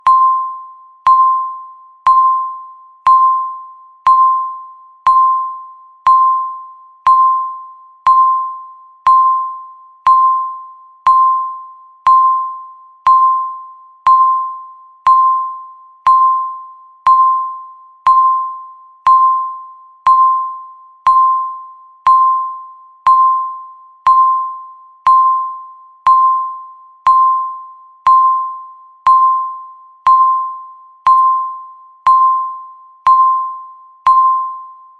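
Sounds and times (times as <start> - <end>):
countdown timer beeps: 0.0 - 34.9.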